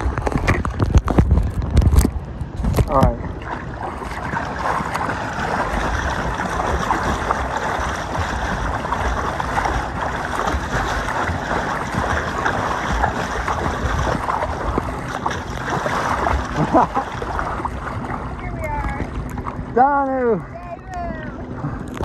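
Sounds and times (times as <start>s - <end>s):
wind on microphone: 0.0s - 19.8s
low rumble: 0.0s - 22.0s
water splashing and lapping: 0.0s - 22.0s.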